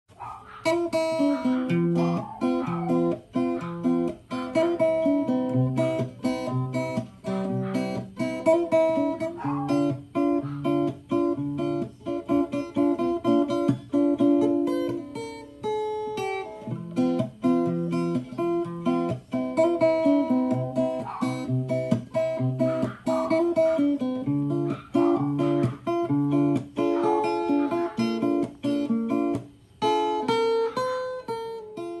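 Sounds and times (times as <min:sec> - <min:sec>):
acoustic guitar music: 0:00.2 - 0:32.0.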